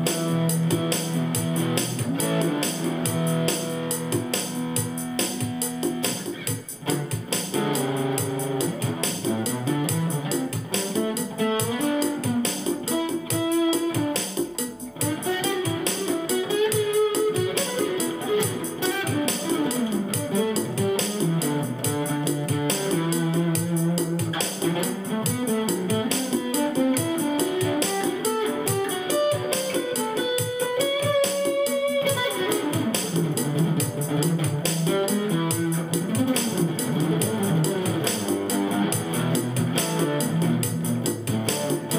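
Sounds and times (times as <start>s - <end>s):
overdriven acoustic guitar melody: 0.0s - 41.9s
steady beat: 0.0s - 41.9s.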